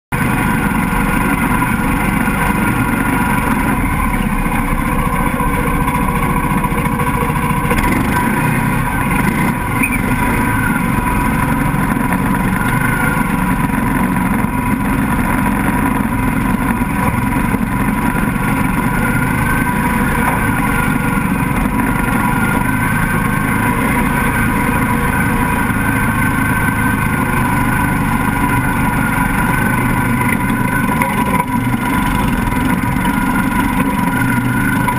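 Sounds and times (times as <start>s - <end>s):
buggy engine running steadily: 0.1s - 34.9s.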